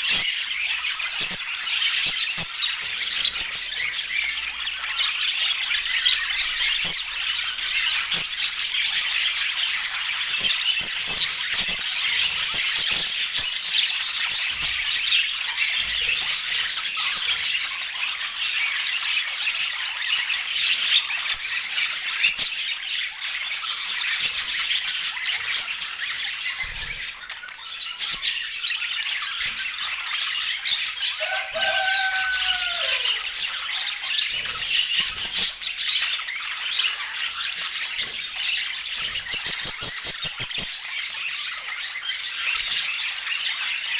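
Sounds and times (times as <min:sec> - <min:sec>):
budgerigars chattering and chirping: 0:00.0 - 0:43.9.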